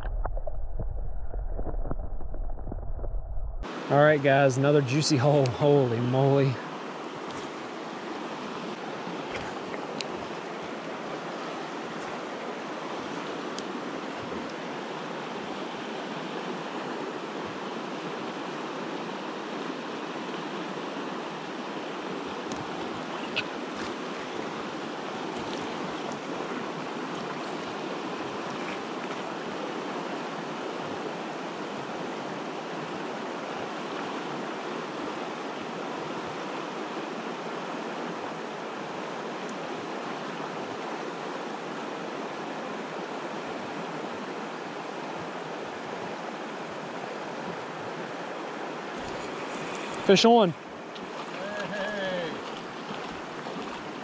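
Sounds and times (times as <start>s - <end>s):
river flowing over rocks: 3.7s - 54.0s.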